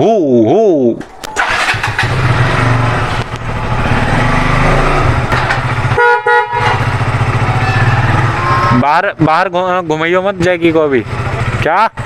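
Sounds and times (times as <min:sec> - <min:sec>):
motorcycle engine idling: 0:01.4 - 0:12.0.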